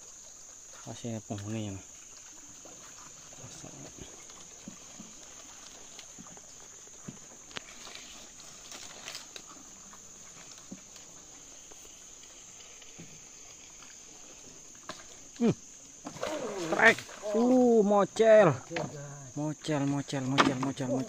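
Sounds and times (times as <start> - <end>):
paddles knocking and splashing: 0.0 - 21.0.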